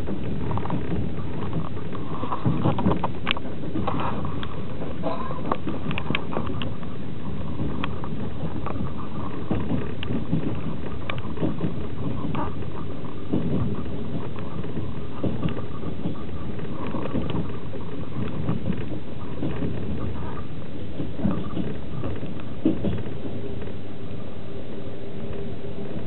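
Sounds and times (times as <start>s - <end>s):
sharp clicks and knocks: 0.0s - 23.8s
train wheels rumbling on rail: 0.0s - 26.0s.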